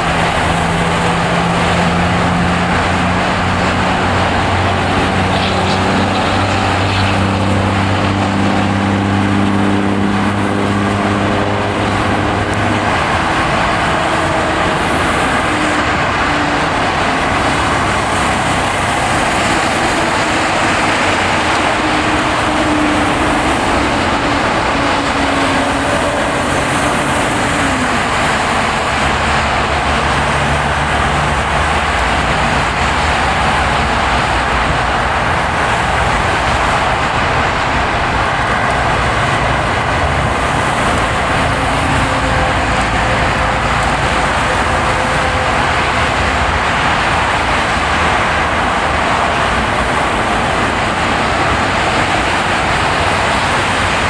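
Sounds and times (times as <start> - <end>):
low engine hum: 0.0 - 54.0
tyre and road noise: 0.0 - 54.0.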